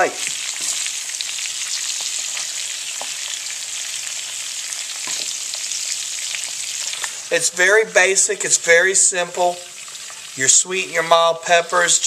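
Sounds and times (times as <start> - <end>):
peppers sizzling in oil: 0.0 - 12.0.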